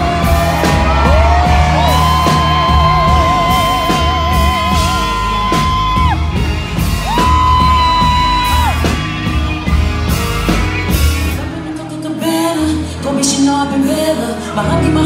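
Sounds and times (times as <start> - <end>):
live music with heavy bass beat: 0.0 - 15.0.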